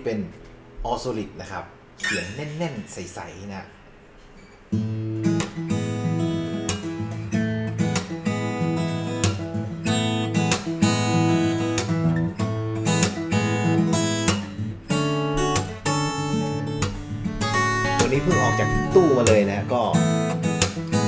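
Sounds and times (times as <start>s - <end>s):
acoustic guitar fingerpicking: 2.0s - 21.0s.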